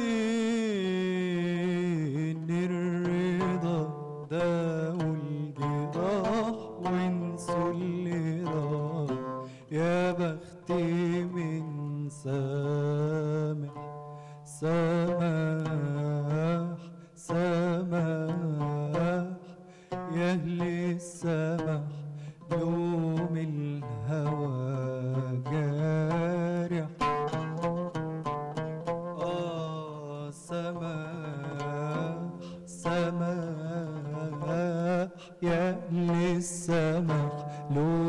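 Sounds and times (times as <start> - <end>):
man singing with vibrato: 0.0 - 38.0
oud playing: 0.0 - 38.0.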